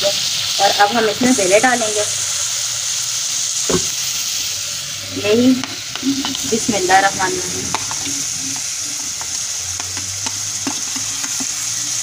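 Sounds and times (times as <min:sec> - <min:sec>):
masala sizzling in metal pot: 0:00.0 - 0:12.0.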